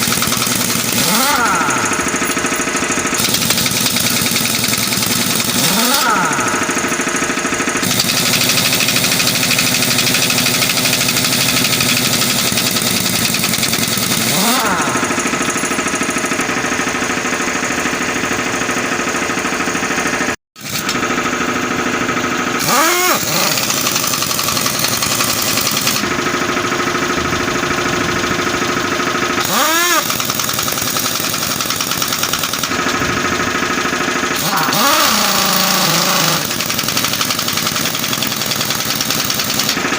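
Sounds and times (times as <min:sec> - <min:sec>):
engine running: 0:00.0 - 0:39.9
rapid mechanical hammering: 0:00.0 - 0:39.9.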